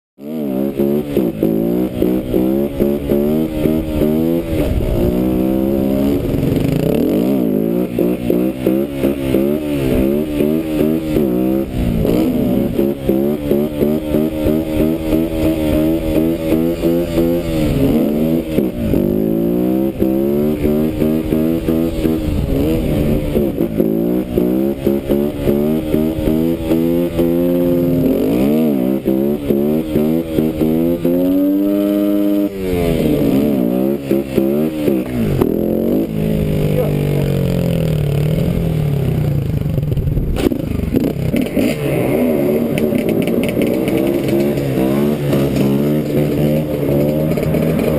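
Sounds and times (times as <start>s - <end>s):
motorcycle engine revving: 0.2s - 47.9s.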